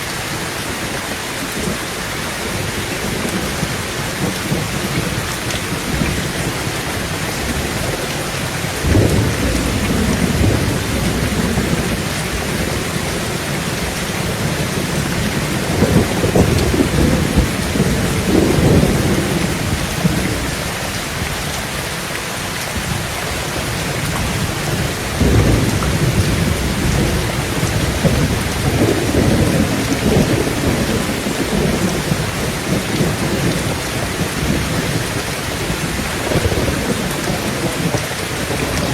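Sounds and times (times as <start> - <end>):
heavy rain on a tin roof: 0.0 - 38.9
low rolls of thunder: 2.5 - 20.9, 23.5 - 38.9.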